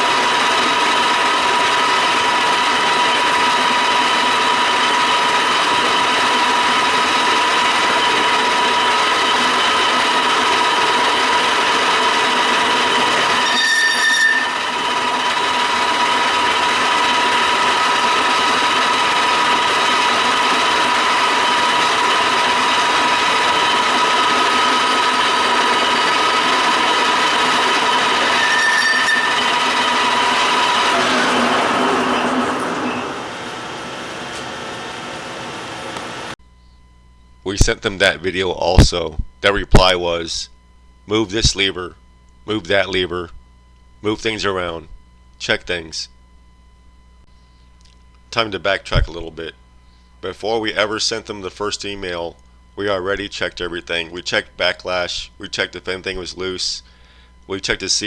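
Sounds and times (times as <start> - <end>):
lathe gear train whining: 0.0 - 58.0.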